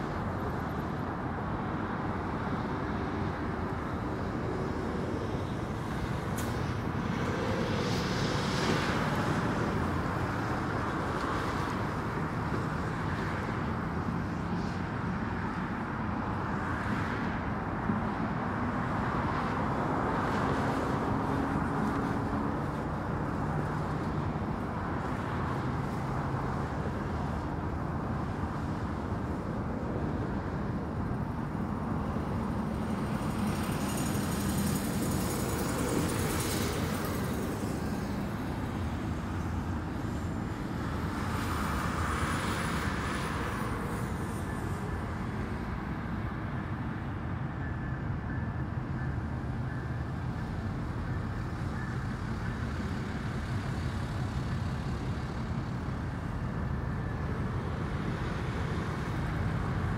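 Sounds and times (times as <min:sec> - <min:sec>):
highway traffic passing: 0:00.0 - 0:59.9.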